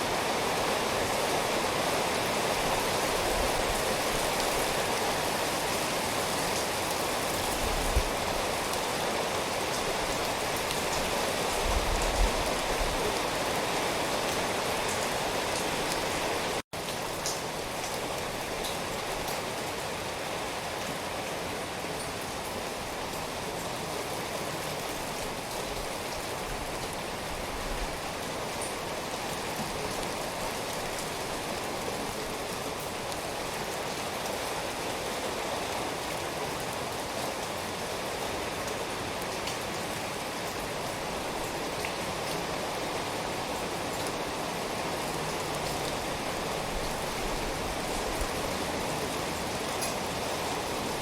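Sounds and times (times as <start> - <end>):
steady rain: 0.0 - 51.0.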